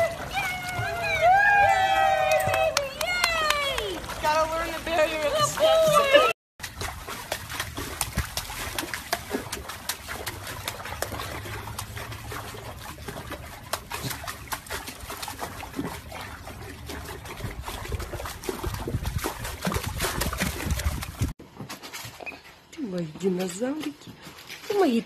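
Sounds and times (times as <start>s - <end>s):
pool water splashing: 0.0s - 24.0s.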